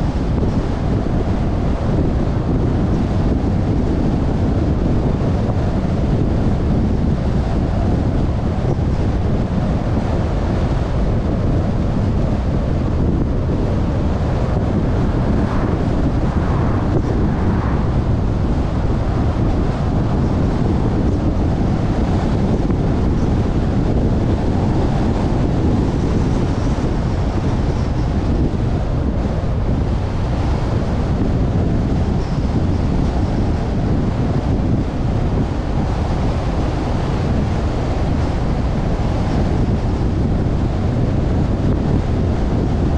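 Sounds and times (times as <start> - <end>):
car road noise: 0.0 - 42.9
wind buffeting microphone: 0.0 - 42.9.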